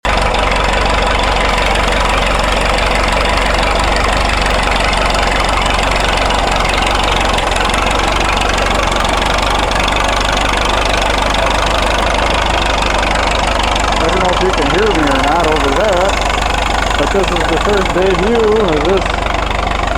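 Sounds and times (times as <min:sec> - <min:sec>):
road roller engine running: 0:00.1 - 0:19.9.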